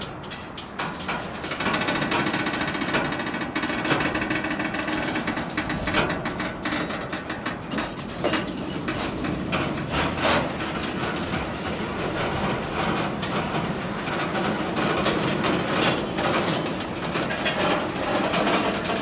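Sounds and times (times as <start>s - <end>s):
clanks and knocks: 0.0s - 19.0s
train wheels and couplers creaking: 0.0s - 19.0s.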